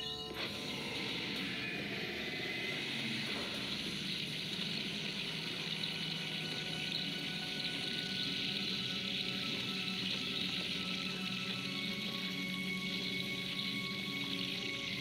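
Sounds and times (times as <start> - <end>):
faint steady tones: 0.0 - 15.0
low hum: 0.0 - 15.0.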